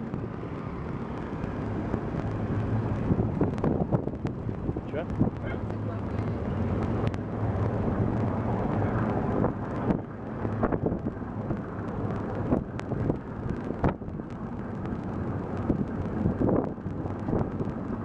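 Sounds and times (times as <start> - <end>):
road noise: 0.0 - 18.0
tuk-tuk engine hum: 0.0 - 18.0
wind buffeting microphone: 0.0 - 18.0.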